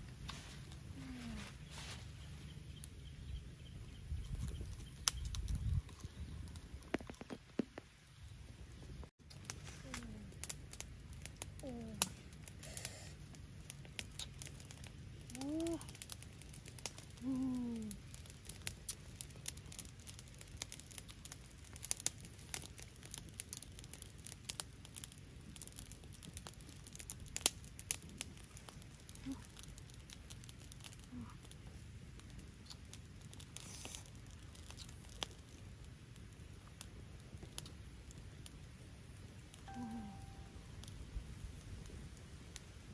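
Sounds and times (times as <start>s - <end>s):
campfire crackling and snapping: 0.0s - 42.9s.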